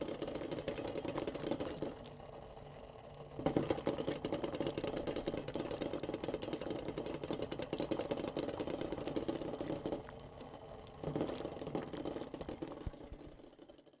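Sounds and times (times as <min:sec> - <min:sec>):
water boiling in a pot: 0:00.0 - 0:14.0.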